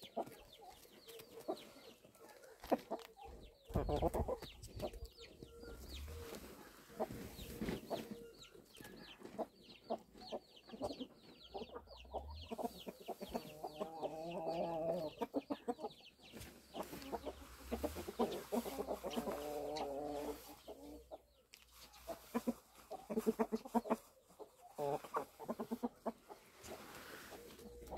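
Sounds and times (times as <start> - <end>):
chickens clucking: 0.0 - 27.9
long wavering chicken calls: 1.0 - 10.0, 10.7 - 27.9.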